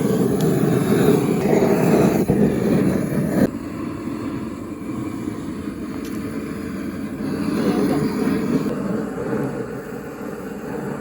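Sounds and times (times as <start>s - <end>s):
low rushing noise: 0.0s - 11.0s.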